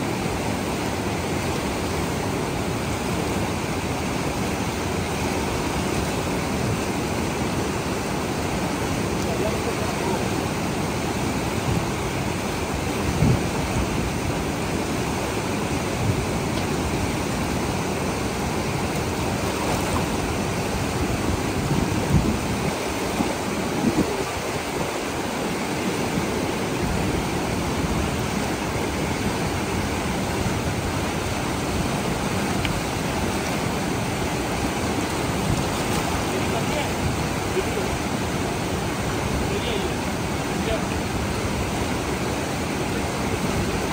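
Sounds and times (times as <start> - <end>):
river rushing over rocks: 0.0 - 43.9.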